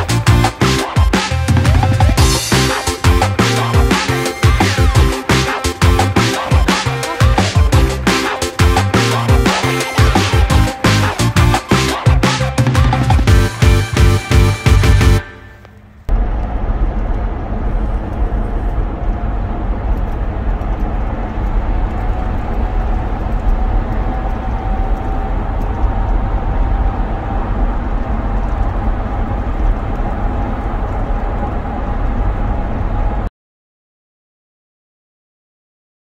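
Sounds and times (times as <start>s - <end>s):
car engine rumble: 0.0s - 33.3s
faint rising hum: 0.0s - 33.3s.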